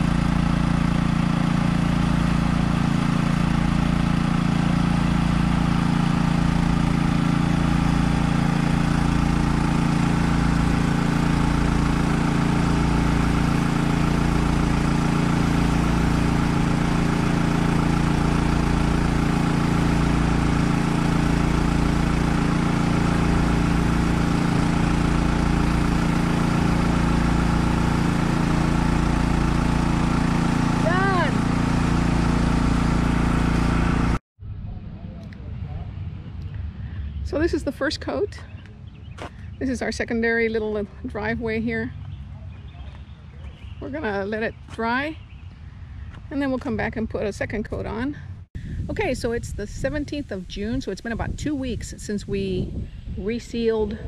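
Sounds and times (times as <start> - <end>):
engine-driven sprayer running: 0.0 - 34.2, 34.8 - 54.0.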